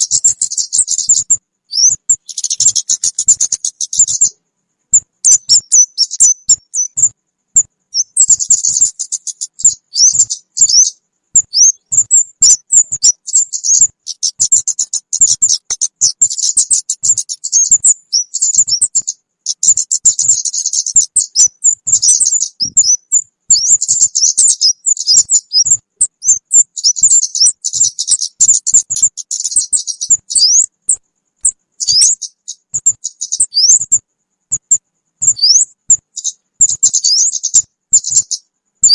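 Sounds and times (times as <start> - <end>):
bird lure call chirps and trills: 0.0 - 38.9.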